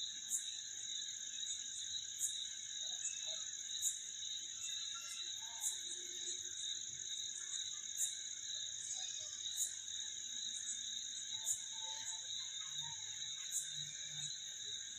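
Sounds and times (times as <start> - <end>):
insects and frogs calling: 0.0 - 14.9.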